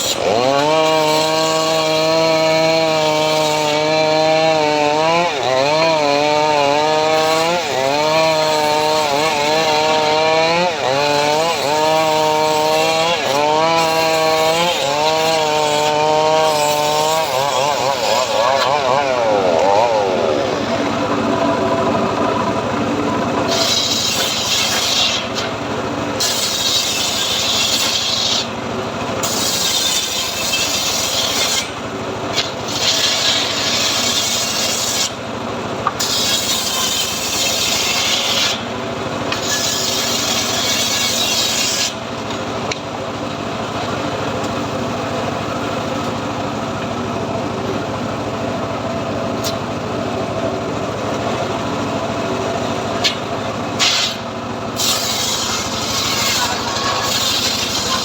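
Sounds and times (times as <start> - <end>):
saw blade rasping through wood: 0.0 - 42.8, 52.9 - 58.0
sawmill running idle: 0.0 - 58.0.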